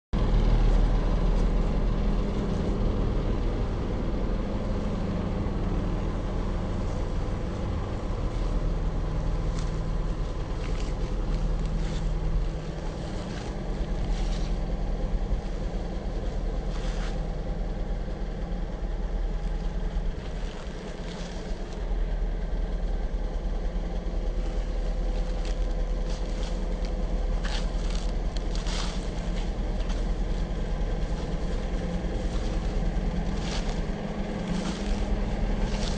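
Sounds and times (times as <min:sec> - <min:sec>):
diesel excavator engine idling: 0:00.2 - 0:35.9.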